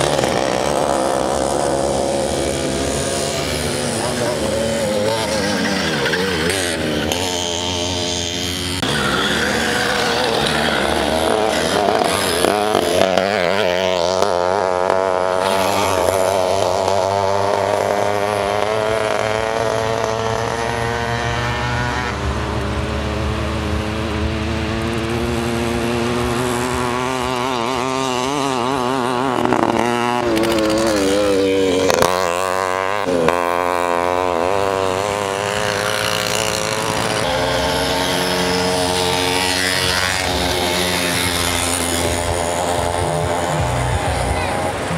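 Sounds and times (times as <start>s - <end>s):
moped engines revving high: 0.0s - 44.9s.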